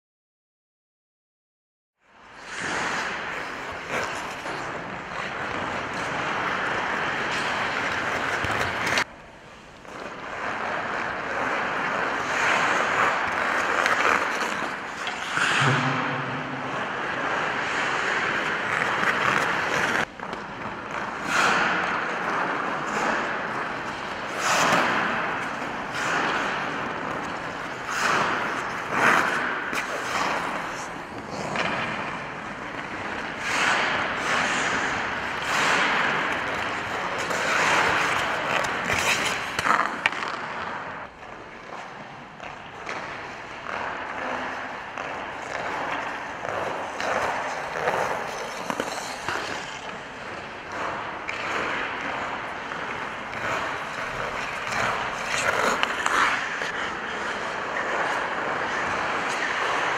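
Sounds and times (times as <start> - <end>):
skate blades scraping ice: 2.2 - 59.9.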